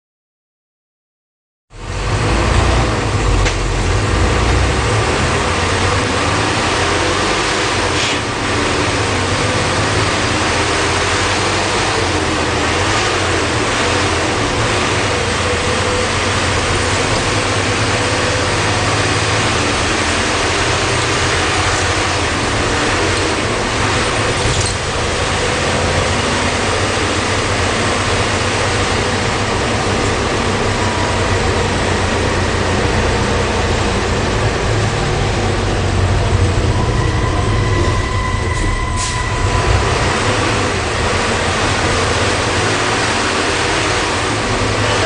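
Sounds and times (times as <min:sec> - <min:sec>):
diesel bus engine rumbling: 0:01.7 - 0:45.0.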